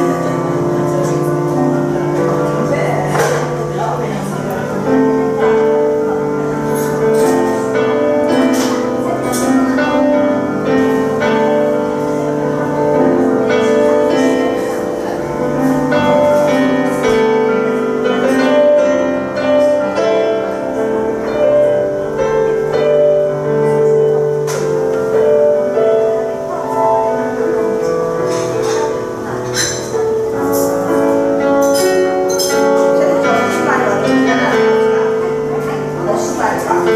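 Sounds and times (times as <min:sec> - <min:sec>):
piano chords and bass line: 0:00.0 - 0:36.9.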